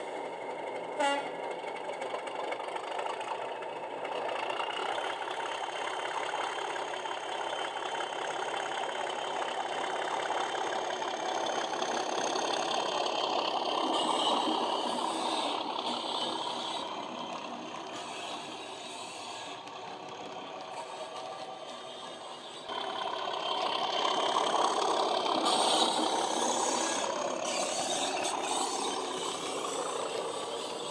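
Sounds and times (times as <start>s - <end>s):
model diesel engine sound: 0.0s - 30.9s.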